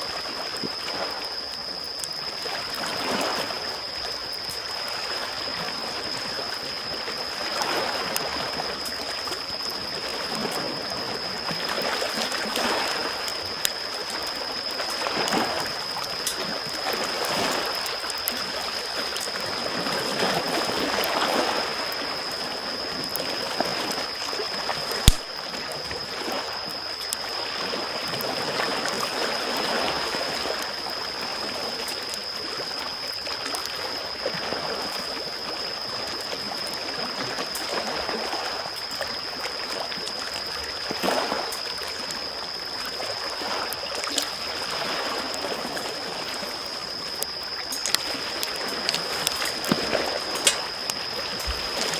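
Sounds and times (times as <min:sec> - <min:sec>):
campfire crackling: 0:00.1 - 0:51.9
small waves lapping: 0:04.9 - 0:51.9.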